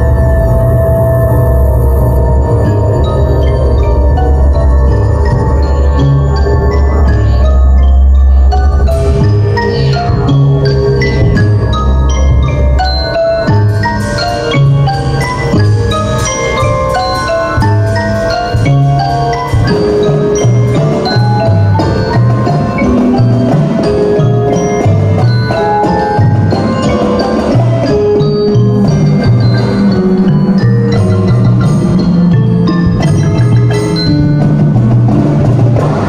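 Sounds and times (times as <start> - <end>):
marimbas playing quick runs: 0.0 - 36.0
repeating low bass line: 0.0 - 36.0.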